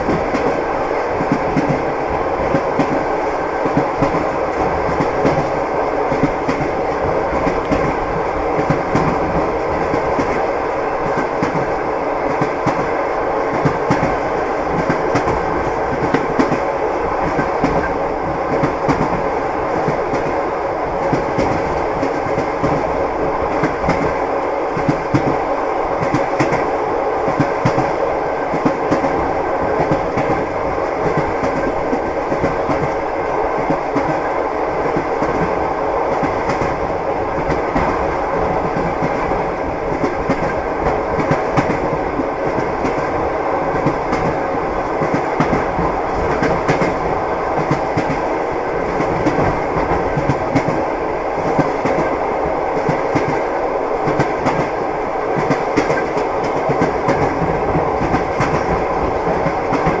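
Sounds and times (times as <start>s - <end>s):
train rumble: 0.0s - 60.0s.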